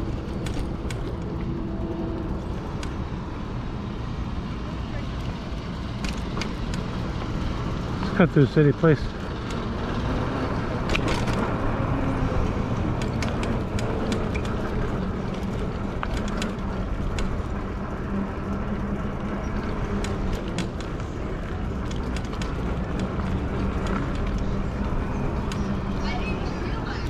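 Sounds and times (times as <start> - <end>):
e-bike tires rolling: 0.0 - 27.0.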